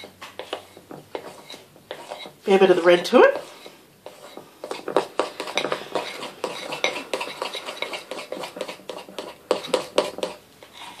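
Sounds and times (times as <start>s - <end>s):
utensil scraping ceramic bowl: 0.0s - 11.0s.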